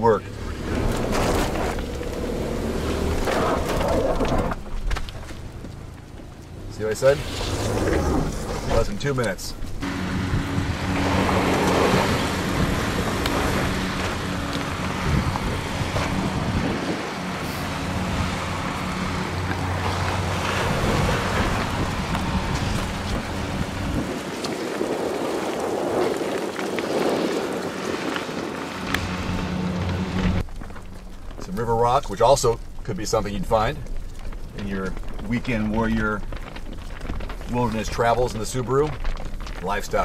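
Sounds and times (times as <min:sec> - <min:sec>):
car engine running at low speed: 0:00.0 - 0:24.6, 0:26.7 - 0:40.0
tyres rolling over loose rock: 0:00.0 - 0:40.0.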